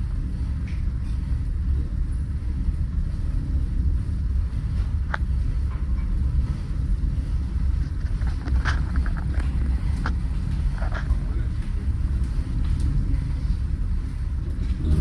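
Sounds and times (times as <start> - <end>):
low rumble of ferry: 0.0 - 15.0.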